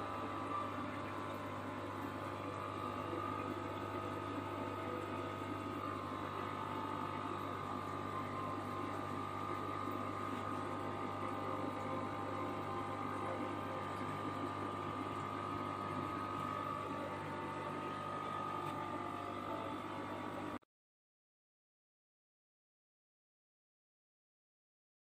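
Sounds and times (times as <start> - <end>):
air pumps humming: 0.0 - 20.6.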